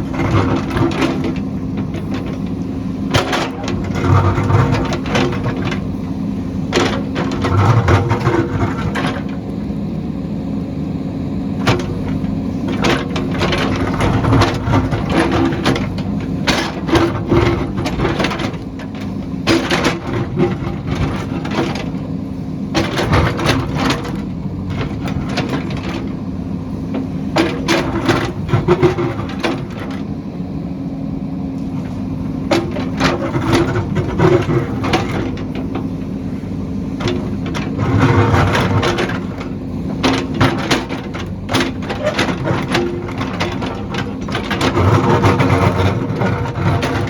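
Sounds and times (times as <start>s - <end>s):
heavy machine engine running: 0.0s - 47.0s.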